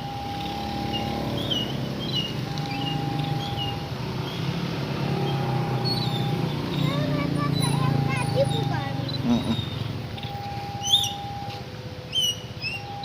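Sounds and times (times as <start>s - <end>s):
diesel locomotive rumbling: 0.0s - 13.0s
bird chirps: 0.3s - 11.5s, 12.1s - 13.0s.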